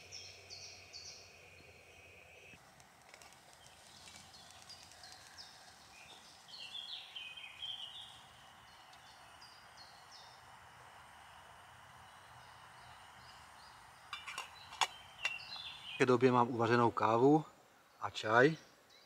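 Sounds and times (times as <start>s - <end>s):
songbird singing: 0.0s - 2.6s, 3.5s - 19.0s.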